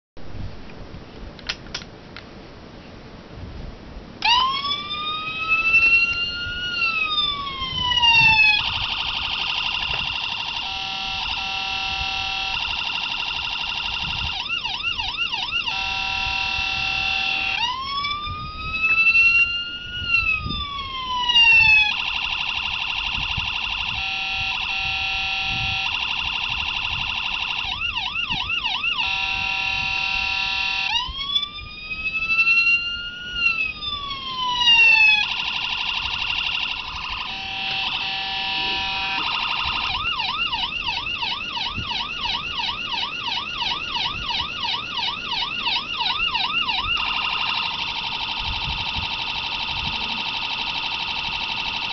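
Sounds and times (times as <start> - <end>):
electronic siren through small speaker: 4.2 - 51.9.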